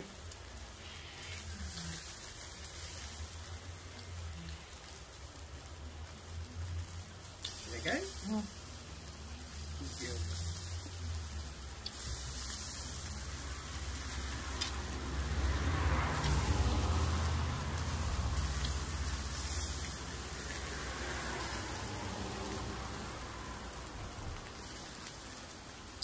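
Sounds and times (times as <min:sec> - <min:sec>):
meat sizzling on a grill: 0:00.0 - 0:26.0
rain: 0:00.0 - 0:26.0.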